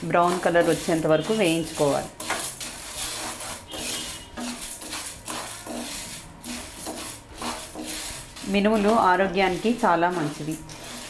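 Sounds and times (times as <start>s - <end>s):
lentils rattling in a pan: 0.0s - 11.0s.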